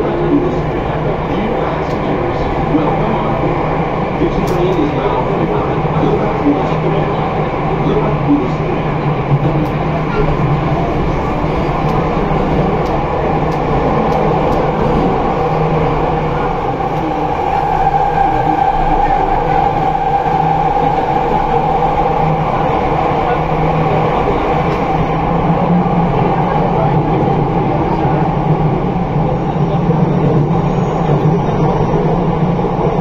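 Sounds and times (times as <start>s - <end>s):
high train whine: 0.0s - 33.0s
metro train rumbling in tunnel: 0.0s - 33.0s.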